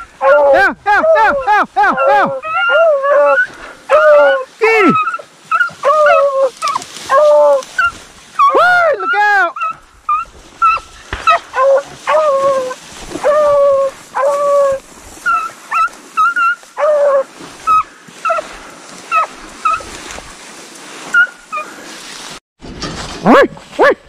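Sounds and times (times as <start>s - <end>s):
hounds barking and bawling: 0.0s - 20.0s, 21.1s - 21.8s.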